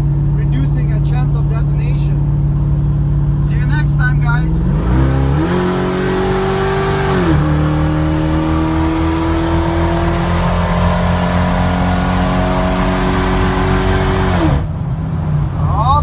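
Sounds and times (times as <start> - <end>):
truck engine accelerating hard: 0.0 - 16.0.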